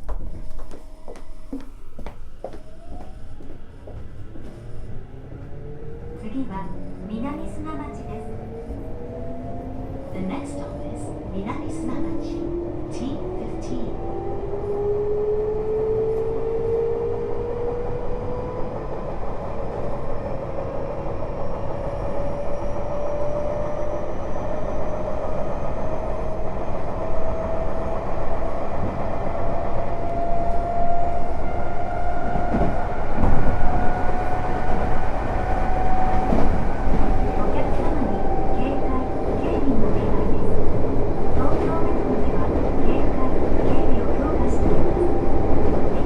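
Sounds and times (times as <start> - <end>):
wheels rumbling on rail: 0.0 - 46.0.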